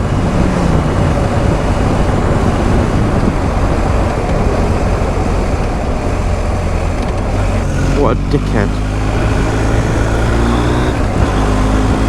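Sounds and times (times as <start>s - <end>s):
motorcycle engine drone: 0.0s - 12.0s
wind rush and road noise: 0.0s - 12.0s.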